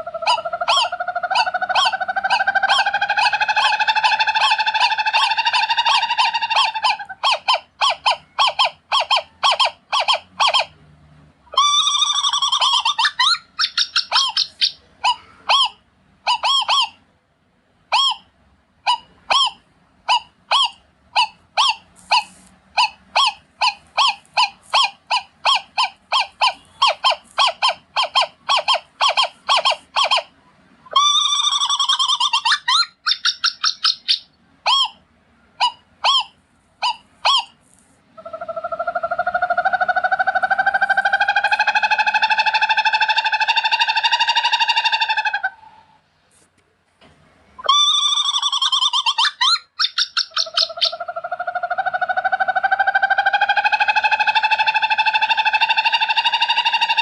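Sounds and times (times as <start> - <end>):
owl calling: 0.0 - 10.8, 11.5 - 17.0, 17.9 - 46.0, 47.6 - 57.0.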